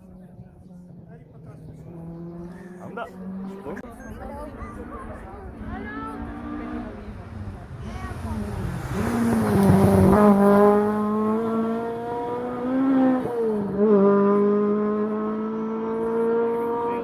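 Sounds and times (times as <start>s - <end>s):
rally car engine at high revs: 0.6s - 3.8s, 5.6s - 17.0s.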